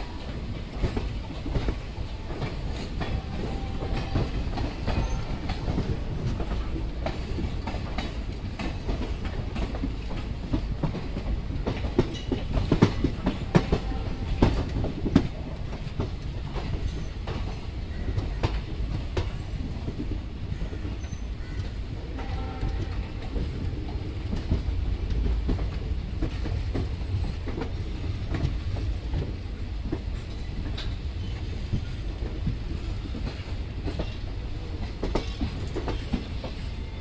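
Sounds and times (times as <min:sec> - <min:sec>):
train rumble: 0:00.0 - 0:37.0
wheels clacking over rail joints: 0:00.1 - 0:37.0.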